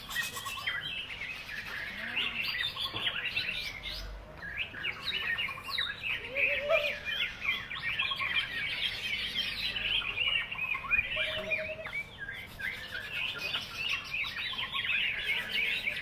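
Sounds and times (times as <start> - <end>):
many birds chirping and whistling: 0.0 - 16.0.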